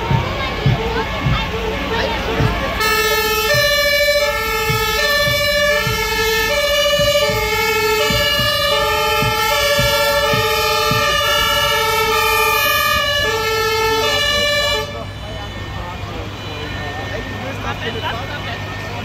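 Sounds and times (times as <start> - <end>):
fire engine two-tone siren: 0.0 - 19.0.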